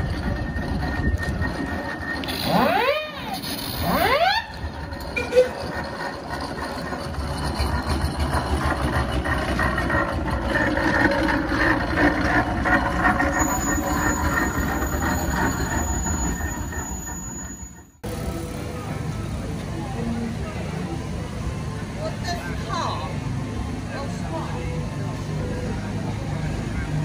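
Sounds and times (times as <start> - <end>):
steam engine running: 0.0 - 22.2.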